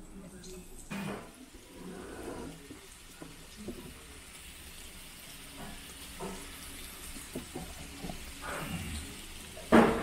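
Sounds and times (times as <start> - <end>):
meat sizzling on a grill plate: 0.8 - 10.0.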